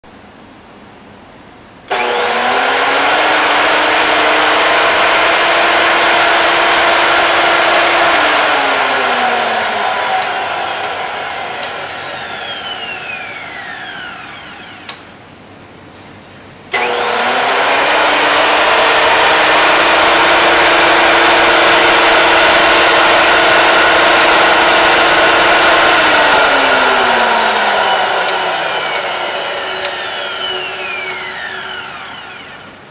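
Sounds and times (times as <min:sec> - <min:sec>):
thickness planer motor whining: 0:01.9 - 0:15.3, 0:16.7 - 0:32.9.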